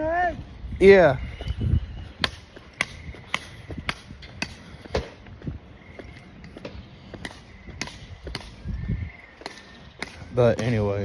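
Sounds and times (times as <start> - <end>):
footsteps walking: 0.8 - 10.8.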